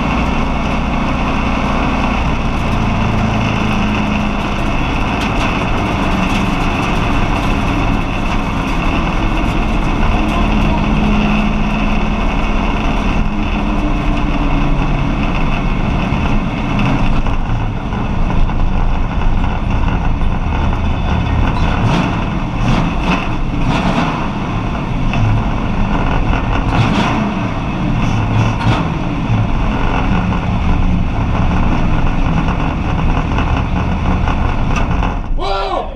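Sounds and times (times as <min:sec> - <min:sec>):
race car engine at low revs: 0:00.0 - 0:35.4.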